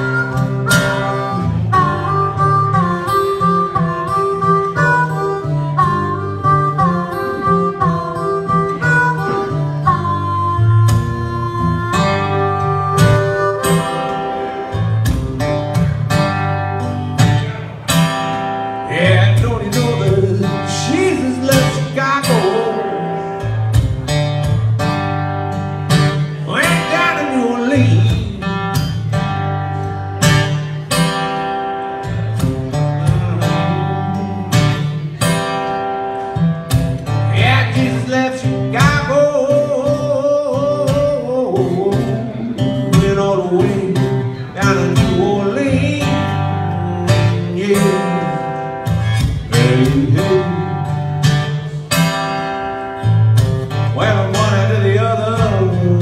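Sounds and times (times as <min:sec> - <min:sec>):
harmonica playing: 0:00.0 - 0:55.6
acoustic guitar strumming: 0:00.0 - 0:56.0.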